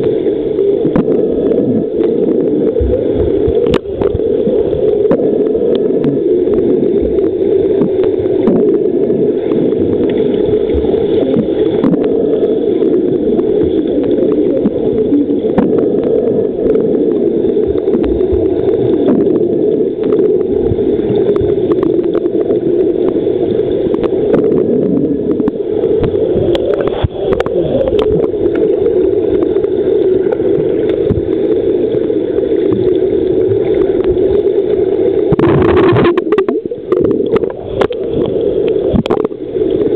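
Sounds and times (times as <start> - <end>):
muffled underwater churning: 0.0 - 39.9.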